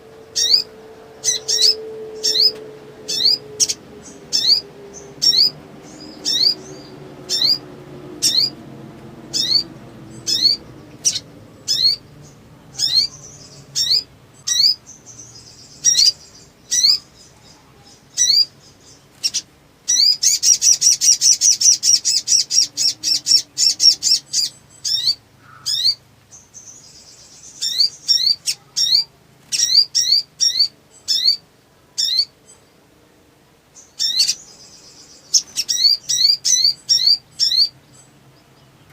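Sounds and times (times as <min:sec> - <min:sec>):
bird chirping: 0:00.0 - 0:32.9, 0:33.6 - 0:38.9.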